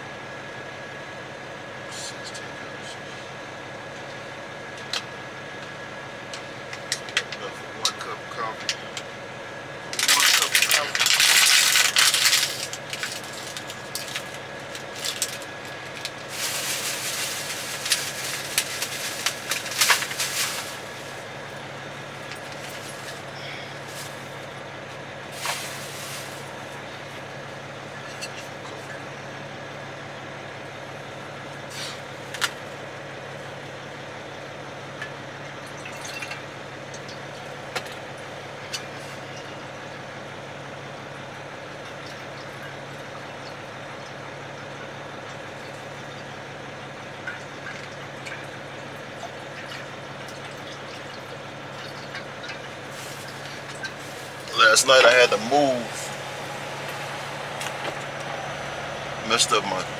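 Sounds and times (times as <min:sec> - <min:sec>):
truck engine idling hum: 0:00.0 - 0:59.9.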